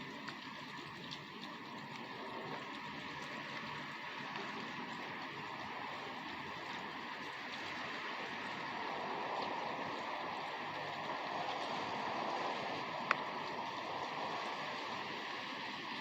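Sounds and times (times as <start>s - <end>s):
individual raindrop ticks: 0.0s - 16.0s
steady rain: 0.0s - 16.0s.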